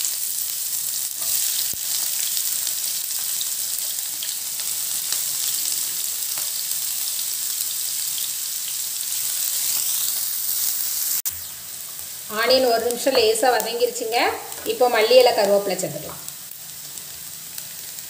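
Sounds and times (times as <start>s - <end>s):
onion sizzling in hot oil: 0.0s - 18.0s.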